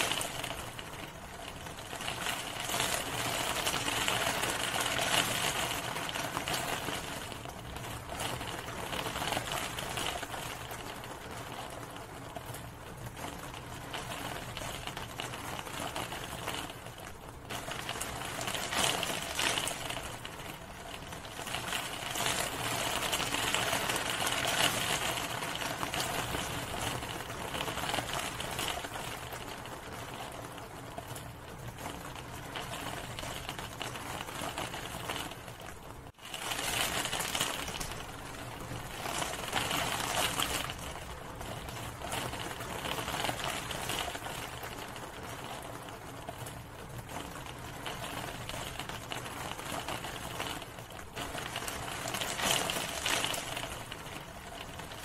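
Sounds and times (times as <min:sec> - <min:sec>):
rain falling steadily: 0:00.0 - 0:55.0.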